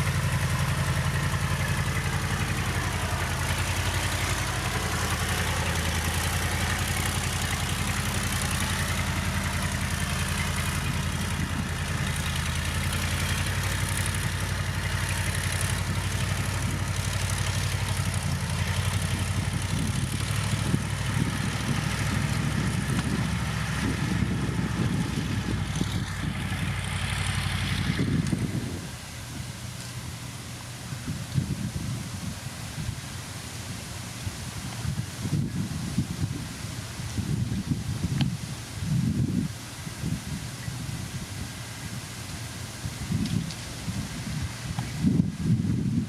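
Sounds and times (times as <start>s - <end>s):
diesel engine running at low revs: 0.0s - 46.0s.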